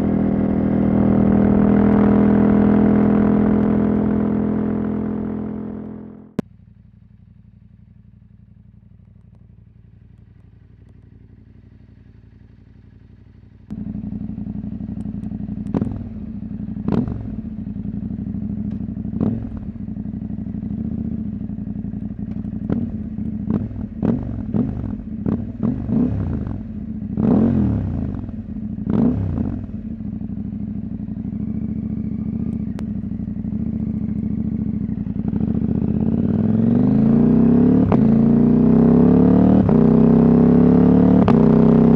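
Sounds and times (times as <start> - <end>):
motorcycle engine revving: 0.0 - 6.5, 10.0 - 41.9.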